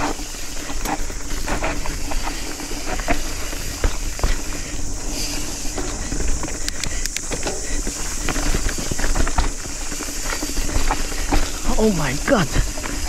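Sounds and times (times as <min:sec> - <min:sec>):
bike rattling over bumps: 0:00.0 - 0:13.0
bike tyres rolling on dirt: 0:00.0 - 0:13.0.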